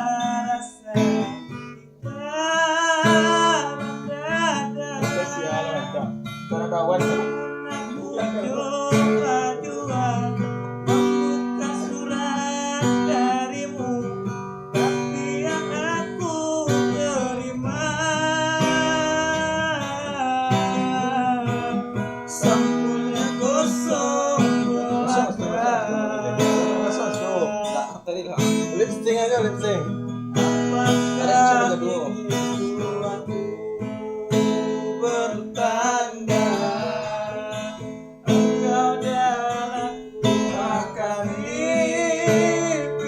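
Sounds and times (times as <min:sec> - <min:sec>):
person singing a ballad: 0:00.0 - 0:06.0, 0:07.2 - 0:28.1, 0:30.4 - 0:43.0
acoustic guitar strumming: 0:00.0 - 0:43.0.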